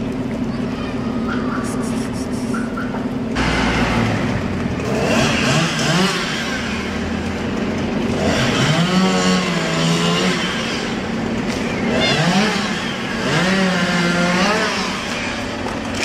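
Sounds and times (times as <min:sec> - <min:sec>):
vehicles accelerating past: 0:01.5 - 0:16.0.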